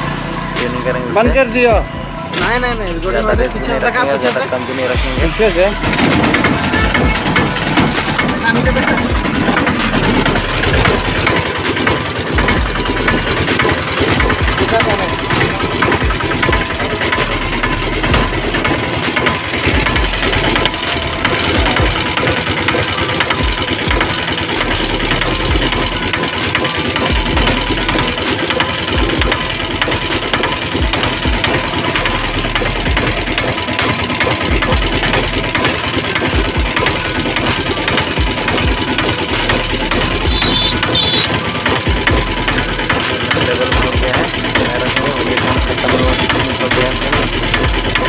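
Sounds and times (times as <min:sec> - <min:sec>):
diesel engine idling: 0:00.0 - 0:48.0.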